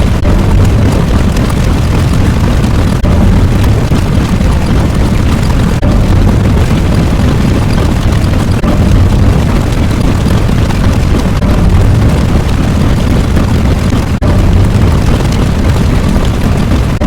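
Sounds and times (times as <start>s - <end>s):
loud low rumble: 0.0s - 17.0s.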